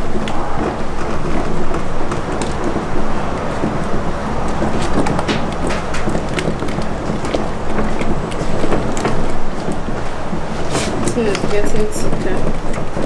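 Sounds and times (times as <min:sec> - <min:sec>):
loud rushing rumble: 0:00.0 - 0:11.0.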